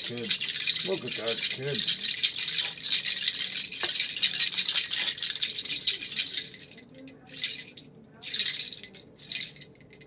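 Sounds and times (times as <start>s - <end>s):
rattle toy rattling: 0.0s - 10.0s.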